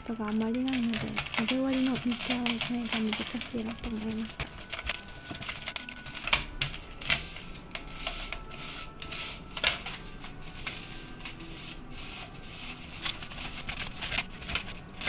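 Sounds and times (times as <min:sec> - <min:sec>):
spatula scraping mixing bowl: 0:00.6 - 0:15.0.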